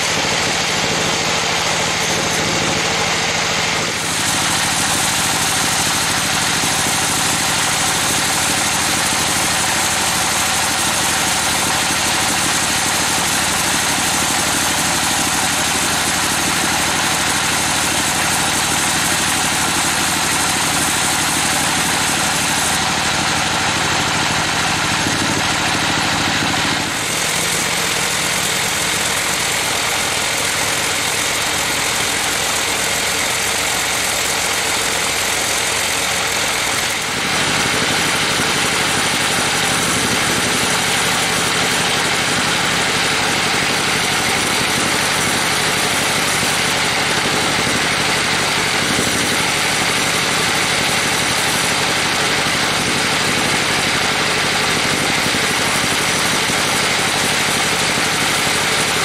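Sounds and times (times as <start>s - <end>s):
band saw cutting log: 0.0s - 59.0s.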